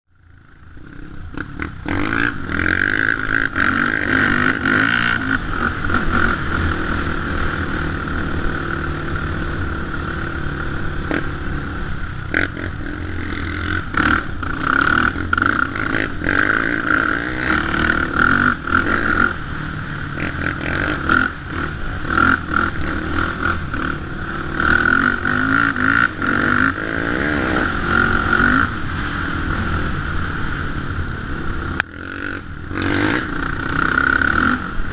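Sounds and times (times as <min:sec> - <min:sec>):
quad engine revving: 0:00.7 - 0:34.9.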